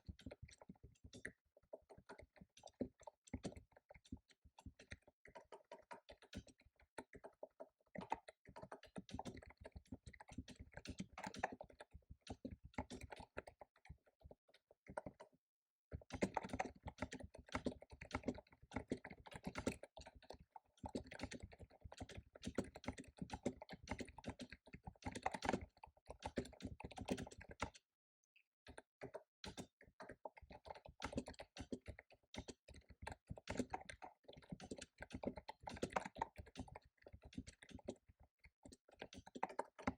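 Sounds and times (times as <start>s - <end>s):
typing on a computer keyboard: 0.0s - 15.3s, 15.9s - 27.9s, 28.6s - 39.9s.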